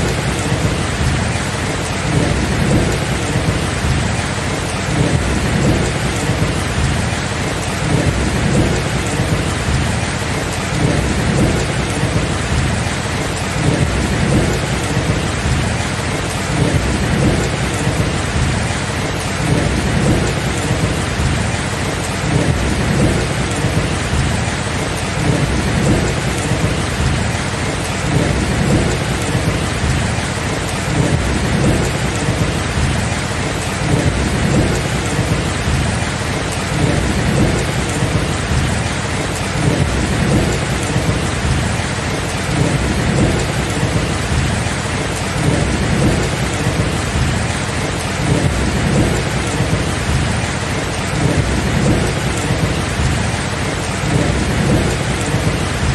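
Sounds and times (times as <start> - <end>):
heavy rain falling: 0.0 - 55.9
thunder rumbling: 0.0 - 55.9.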